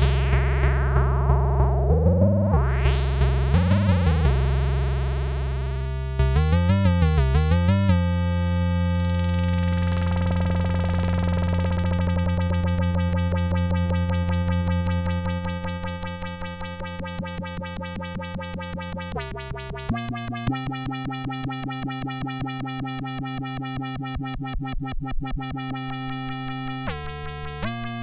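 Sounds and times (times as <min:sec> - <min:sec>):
pulsing synthesizer bass tone: 0:00.0 - 0:28.0.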